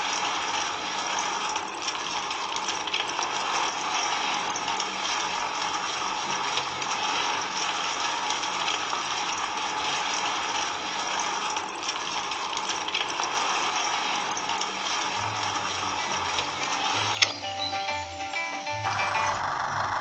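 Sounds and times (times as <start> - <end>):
small motor and gearing rattling: 0.0 - 20.0.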